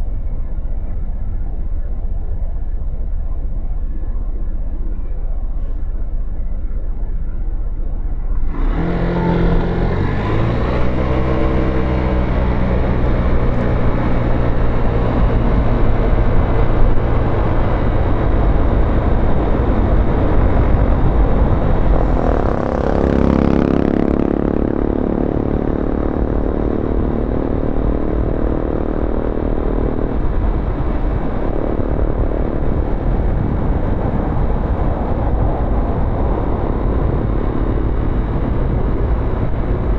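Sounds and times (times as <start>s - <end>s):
road and wind noise: 0.0s - 39.9s
motorcycle engine accelerating: 5.0s - 39.9s.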